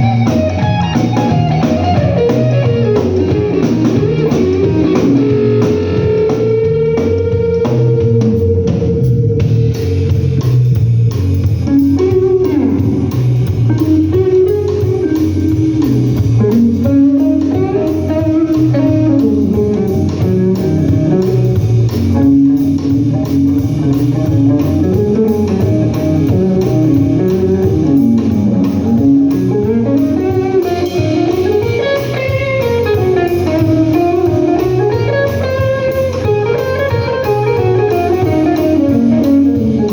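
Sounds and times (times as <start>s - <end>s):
bass guitar: 0.0s - 39.9s
electric guitar lead with bends: 0.0s - 39.9s.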